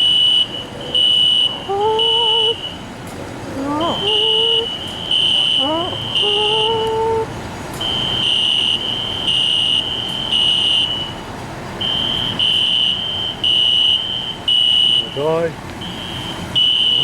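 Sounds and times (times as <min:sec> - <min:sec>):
fire alarms beeping: 0:00.0 - 0:02.9, 0:03.7 - 0:07.2, 0:07.8 - 0:17.0.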